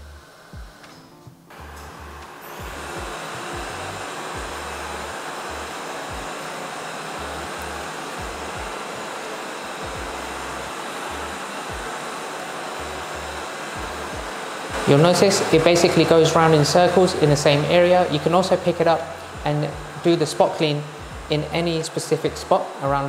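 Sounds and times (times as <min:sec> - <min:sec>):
robot vacuum fan hissing: 0:00.0 - 0:23.0.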